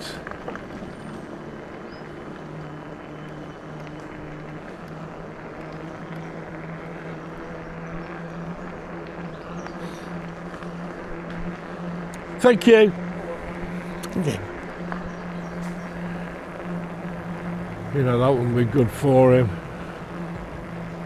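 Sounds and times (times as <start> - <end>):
e-bike motor humming: 0.0 - 21.0
wind and tyre noise: 0.0 - 21.0.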